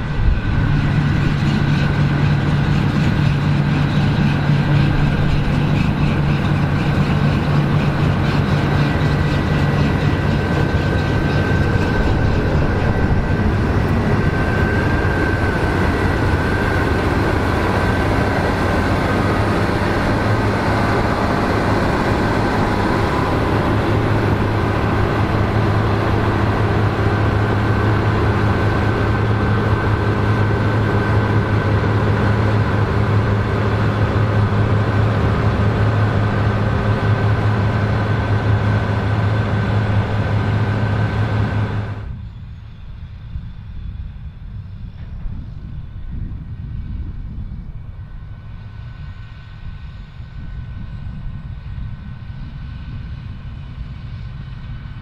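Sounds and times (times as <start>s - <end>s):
combine harvester diesel drone: 0.0s - 55.0s.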